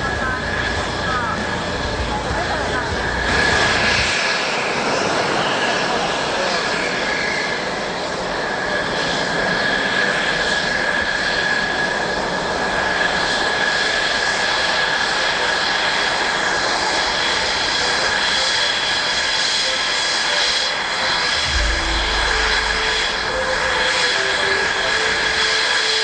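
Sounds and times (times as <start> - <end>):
high turbine whine: 0.0 - 26.0
turbine engine roar: 0.0 - 26.0.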